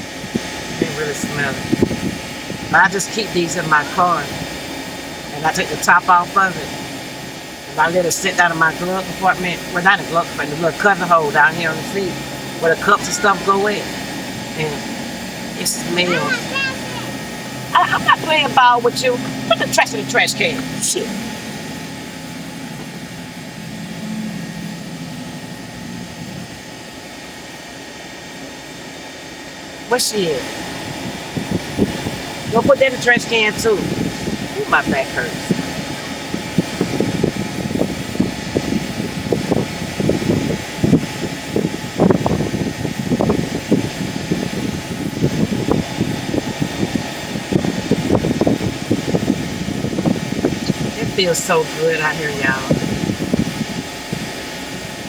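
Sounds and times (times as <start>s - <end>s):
wind buffeting the microphone: 0.0s - 28.4s, 30.4s - 55.0s
mechanical drone with low hum: 0.0s - 55.0s.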